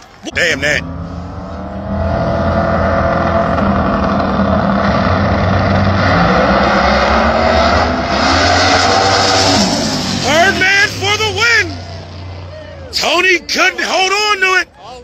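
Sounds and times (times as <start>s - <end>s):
drag race cars engine racket: 0.0s - 15.0s.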